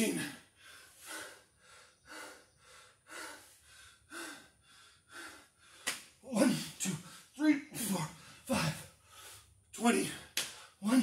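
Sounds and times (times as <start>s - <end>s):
man panting: 0.0s - 11.0s.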